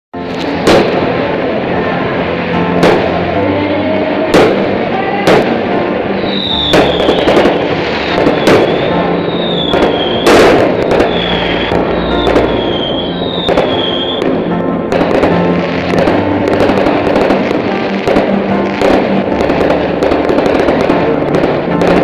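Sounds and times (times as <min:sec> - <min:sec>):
fireworks banging: 0:00.2 - 0:22.0.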